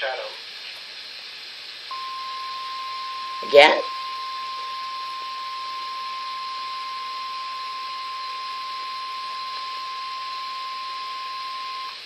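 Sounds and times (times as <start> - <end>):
radio hiss: 0.0 - 12.0
steady high alarm tone: 1.9 - 12.0.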